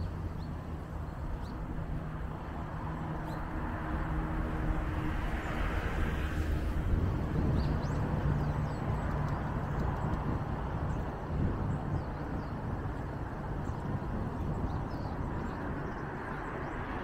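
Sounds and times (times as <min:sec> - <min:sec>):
traffic rumble: 0:00.0 - 0:17.0
vehicle passing by: 0:00.0 - 0:17.0.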